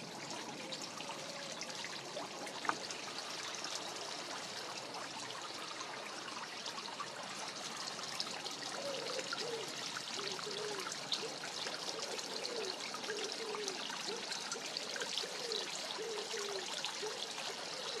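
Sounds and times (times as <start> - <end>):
trickling water rushing: 0.0 - 18.0.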